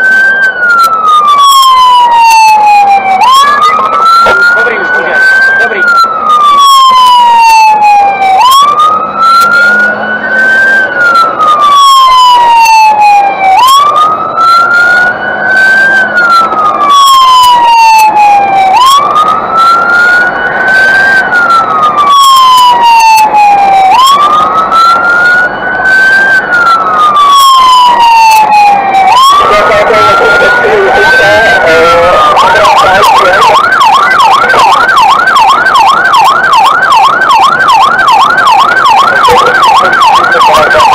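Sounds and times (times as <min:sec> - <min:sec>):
fire engine siren wailing: 0:00.0 - 0:40.9.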